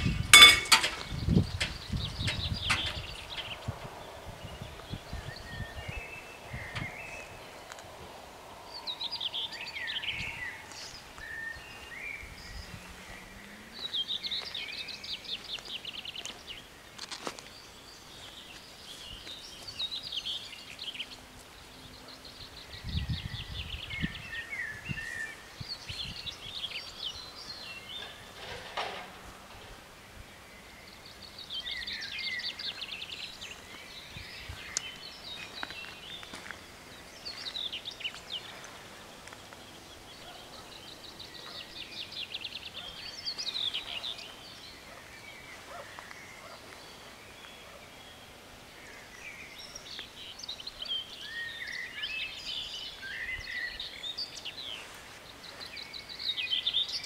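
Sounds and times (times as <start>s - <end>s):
low outdoor hiss: 0.0s - 57.0s
songbirds singing: 0.0s - 57.0s.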